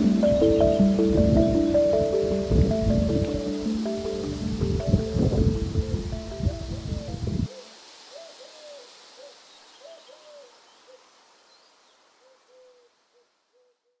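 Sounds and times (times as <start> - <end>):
faint hooting calls: 0.0 - 5.1, 5.8 - 11.1, 12.2 - 14.0
soft outdoor hiss: 0.0 - 14.0.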